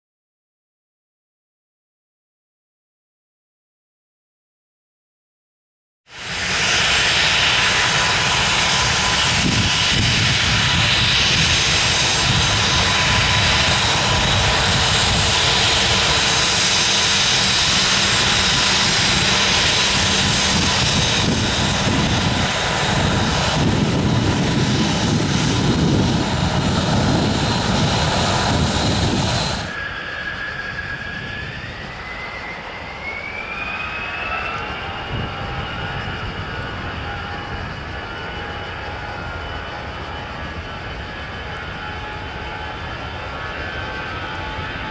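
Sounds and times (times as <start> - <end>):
jet engine whine rising in pitch: 6.1 - 44.9
jet engines running loud: 6.1 - 44.9.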